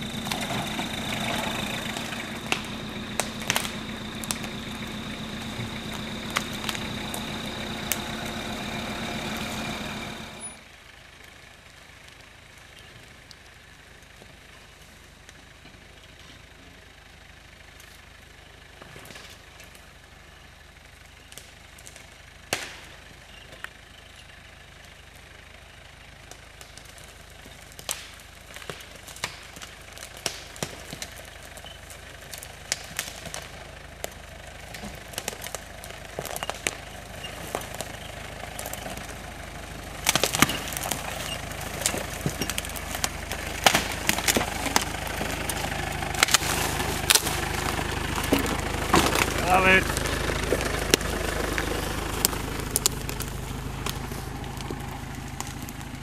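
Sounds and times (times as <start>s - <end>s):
branches snapping under tyres: 0.0s - 15.6s, 18.7s - 20.0s, 20.8s - 25.4s, 26.2s - 56.0s
vehicle engine running low: 0.0s - 56.0s.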